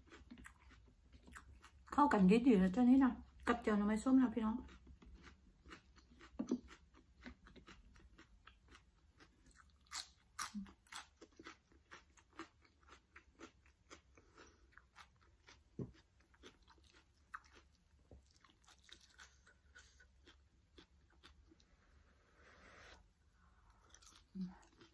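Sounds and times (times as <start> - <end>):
person chewing crisp food: 0.0 - 2.0, 4.6 - 22.3, 22.9 - 24.9.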